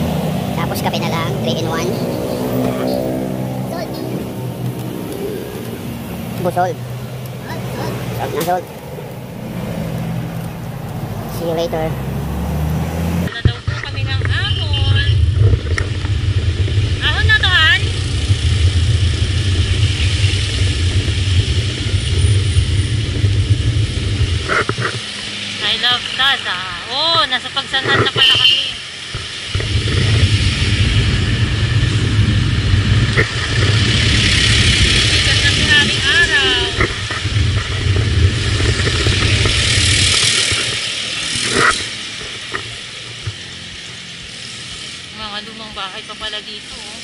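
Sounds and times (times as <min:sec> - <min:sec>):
wind rumbling on microphone: 0:00.0 - 0:25.6, 0:29.0 - 0:43.9
tyre and road noise: 0:00.0 - 0:47.0.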